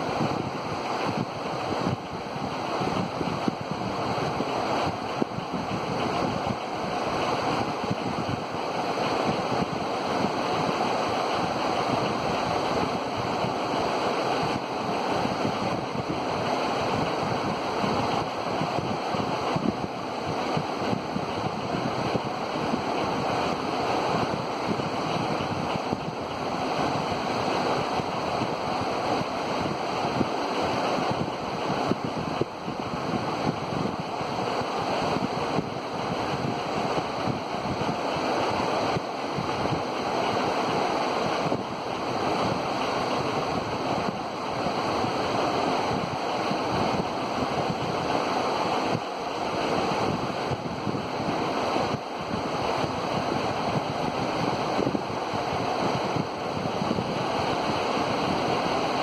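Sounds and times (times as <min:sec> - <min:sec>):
fan blades whooshing: 0:00.0 - 0:59.0.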